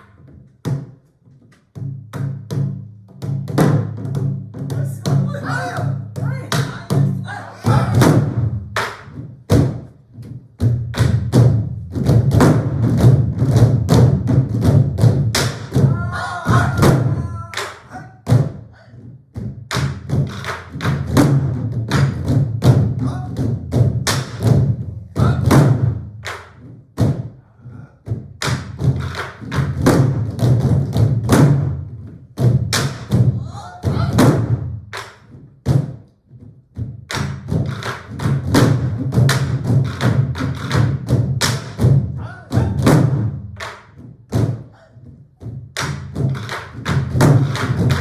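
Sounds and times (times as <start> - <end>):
barrel drums played together: 1.8 - 18.7, 19.3 - 27.3, 28.1 - 44.7, 45.4 - 48.0.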